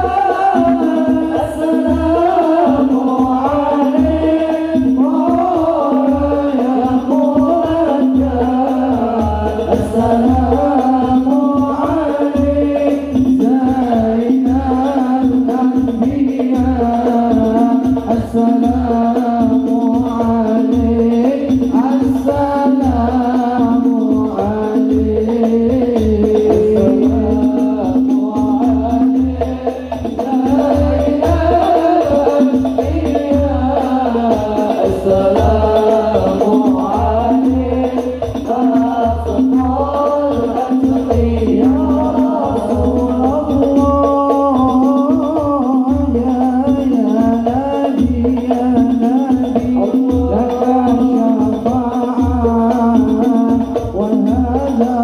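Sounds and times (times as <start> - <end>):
frame drums beating: 0.0 - 55.0
group of men singing: 0.0 - 55.0
lead voice singing on microphone: 0.0 - 55.0.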